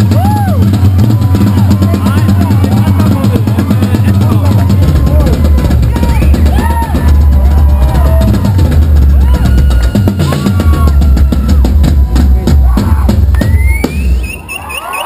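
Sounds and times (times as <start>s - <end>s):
rock drum solo: 0.0s - 14.3s
fast bass drum: 0.0s - 14.4s.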